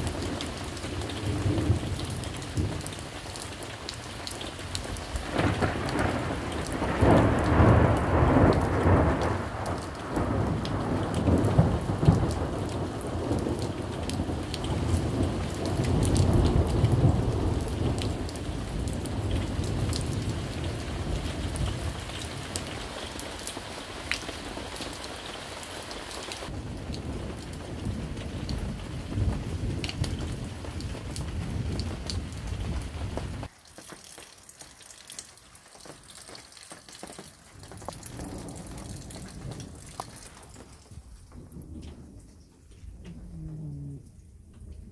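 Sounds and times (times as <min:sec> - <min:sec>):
thunder rumbling: 0:00.0 - 0:03.0, 0:04.7 - 0:25.0, 0:26.4 - 0:33.5, 0:37.6 - 0:44.9
sharp raindrop clicks: 0:00.0 - 0:44.9
steady rain: 0:00.0 - 0:44.9.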